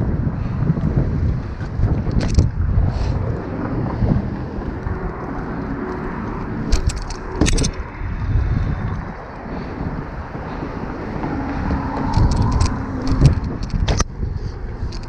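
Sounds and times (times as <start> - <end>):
bike rolling over pavement: 0.0 - 15.0.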